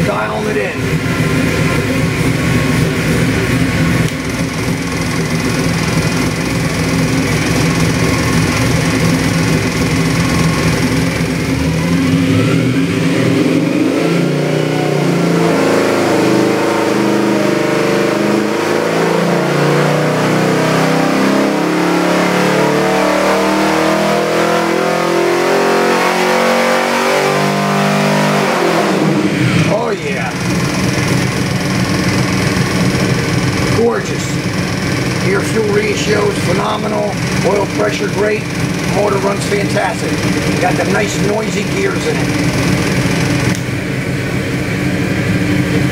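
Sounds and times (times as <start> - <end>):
engine revving on dyno: 0.0 - 45.9.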